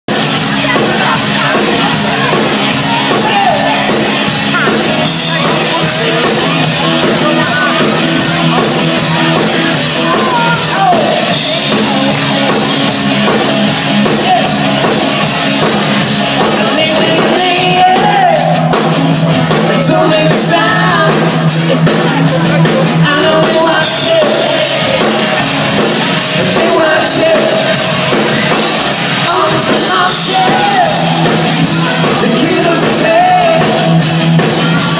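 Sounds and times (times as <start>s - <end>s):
live band playing: 0.1s - 34.9s
steady drumbeat: 0.1s - 34.9s
person singing: 0.2s - 34.9s.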